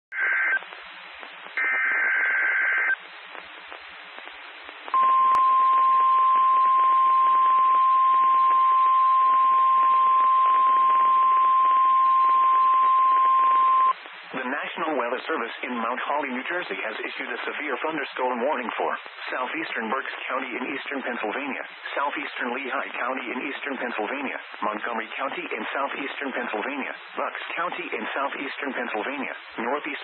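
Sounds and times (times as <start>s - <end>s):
radio static: 0.1s - 5.6s, 9.5s - 30.0s.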